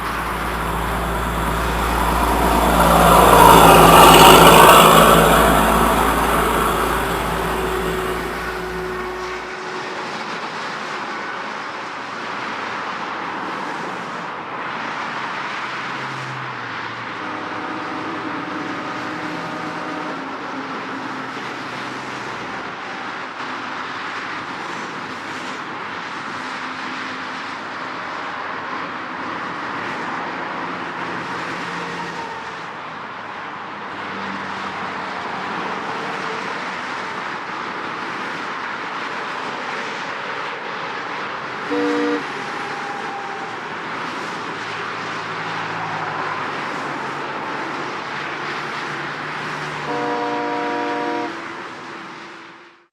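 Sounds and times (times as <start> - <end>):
vehicle engines humming: 0.0 - 12.5, 15.4 - 52.7
heavy road traffic: 0.0 - 52.9.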